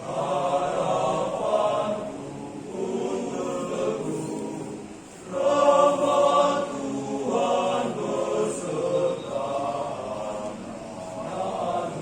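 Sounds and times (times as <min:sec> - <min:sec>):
choir singing a cappella: 0:00.0 - 0:12.0.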